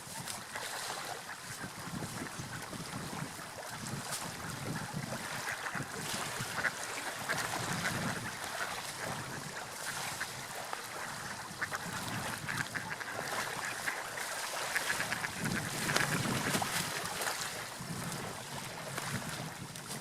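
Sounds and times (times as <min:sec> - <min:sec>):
water lapping in small waves: 0:00.0 - 0:20.0
water splashing: 0:00.0 - 0:20.0.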